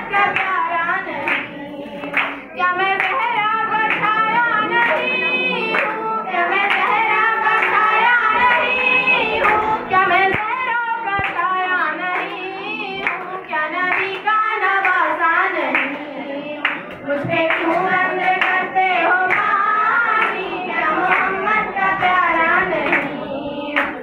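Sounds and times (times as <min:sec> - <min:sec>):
hand claps: 0:00.0 - 0:12.4, 0:13.0 - 0:24.0
girls singing: 0:00.0 - 0:24.0.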